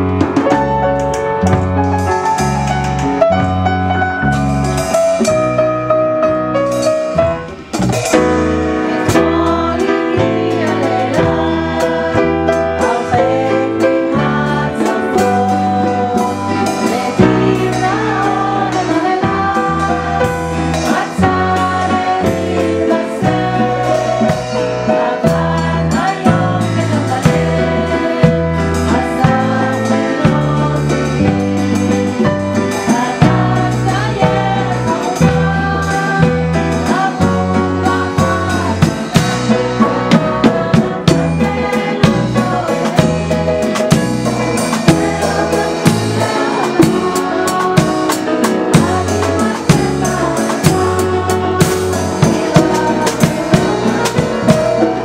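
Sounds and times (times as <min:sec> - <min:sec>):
acoustic guitars: 0:00.0 - 0:55.0
piano: 0:00.0 - 0:55.0
voices singing: 0:08.1 - 0:55.0.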